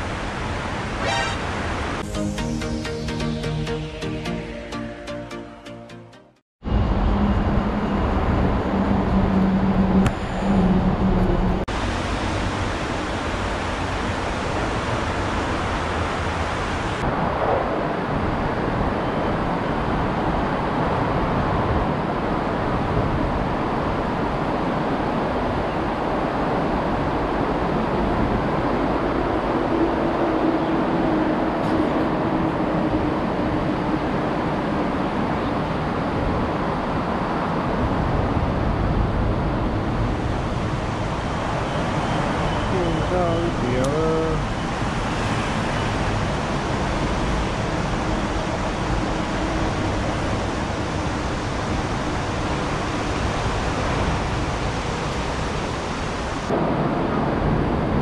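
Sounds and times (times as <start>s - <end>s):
road traffic rumble and hiss: 6.7s - 58.0s.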